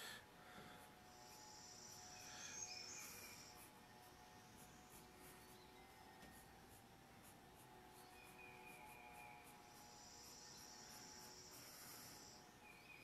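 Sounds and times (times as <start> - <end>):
faint high steady trill: 0.0 - 13.0
pencil strokes on paper: 0.7 - 12.6.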